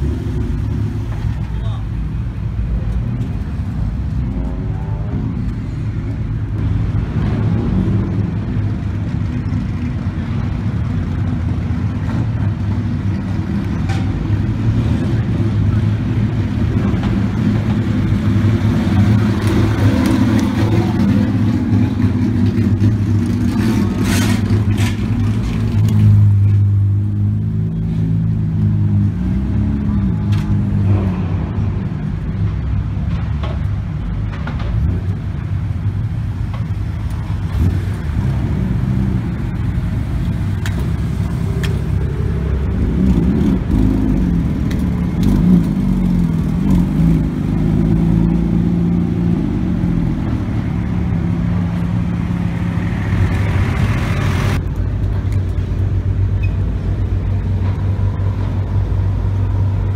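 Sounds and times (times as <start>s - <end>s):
cars driving slowly past: 0.0s - 59.9s.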